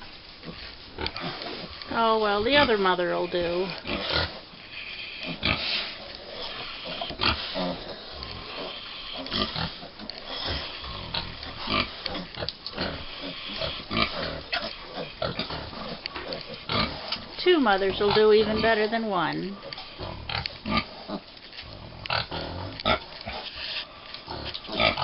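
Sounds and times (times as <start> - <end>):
pigs grunting: 0.4 - 25.0.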